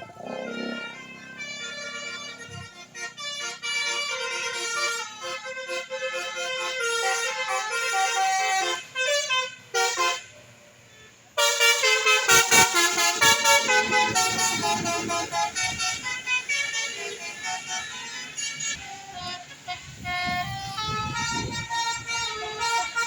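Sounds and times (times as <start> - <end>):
bus horns playing a tune: 0.0 - 23.0
low rumble of passing bus: 0.0 - 23.0.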